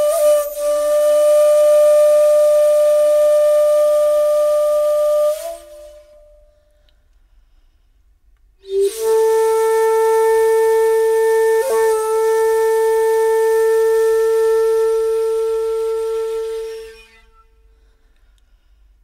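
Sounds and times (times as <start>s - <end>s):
flute long breathy note: 0.0s - 7.6s, 8.6s - 18.8s.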